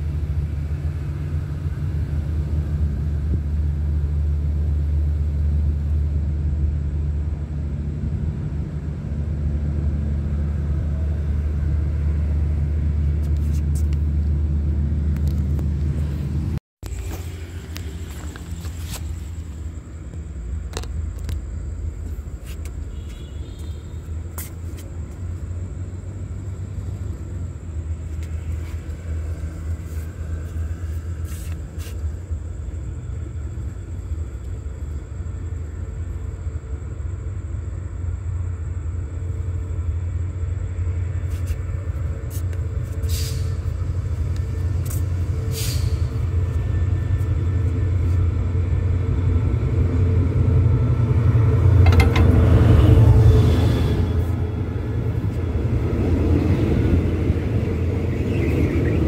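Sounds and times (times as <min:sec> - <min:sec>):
diesel locomotive rumble: 0:00.0 - 0:59.0.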